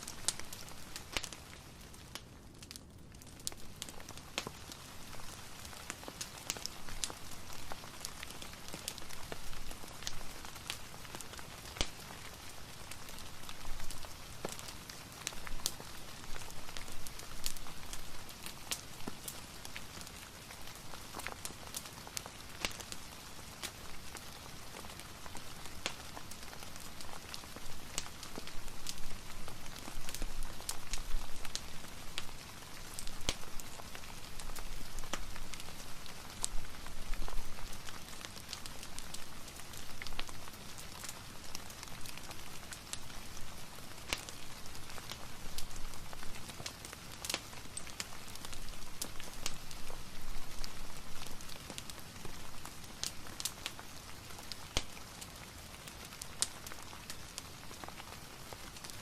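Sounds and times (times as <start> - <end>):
rain hiss: 0.0 - 2.4, 3.5 - 59.0
fire crackling and popping: 0.0 - 59.0.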